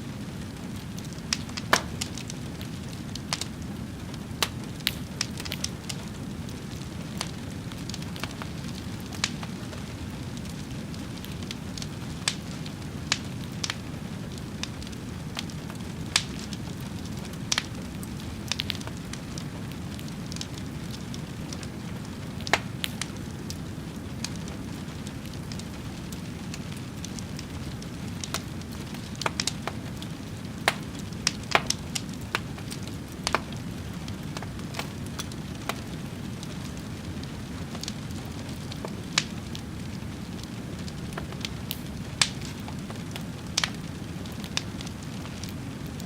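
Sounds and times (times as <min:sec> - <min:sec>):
burning wood crackling and popping: 0:00.0 - 0:46.0
wood fire flames rumbling: 0:00.0 - 0:46.0.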